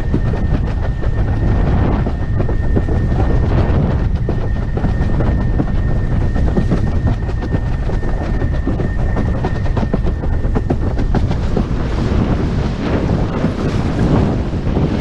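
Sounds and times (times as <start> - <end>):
high whistle of windsurf board: 0.0 - 15.0
wind noise on microphone: 0.0 - 15.0.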